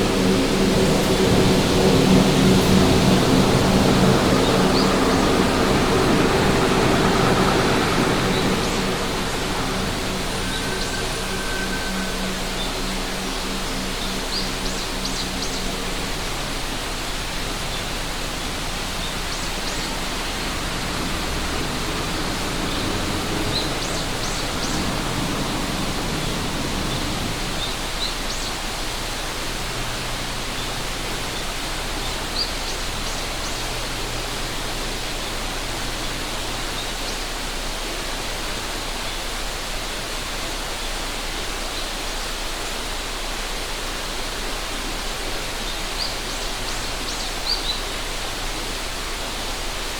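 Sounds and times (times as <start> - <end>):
river water rushing: 0.0 - 49.9.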